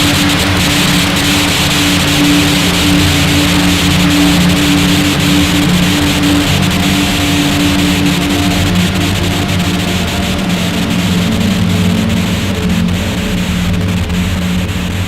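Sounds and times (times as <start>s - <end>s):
harsh hiss and crackle: 0.0s - 15.0s
low droning tones: 0.0s - 15.0s.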